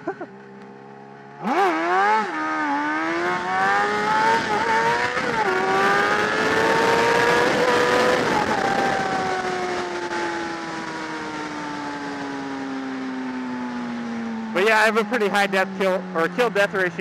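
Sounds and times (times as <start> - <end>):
motorcycle engine revving through gears: 0.0 - 17.0.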